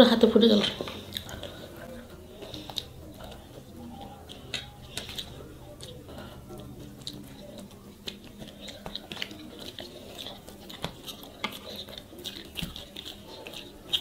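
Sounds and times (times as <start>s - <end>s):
chewing: 0.0s - 14.0s
fingers mixing rice squishing: 0.5s - 14.0s.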